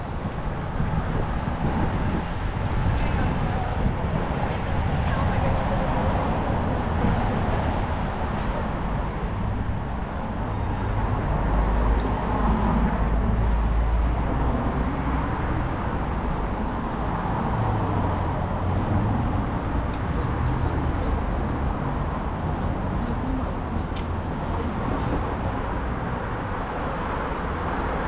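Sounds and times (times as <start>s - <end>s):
passing cars hum: 0.0s - 28.0s.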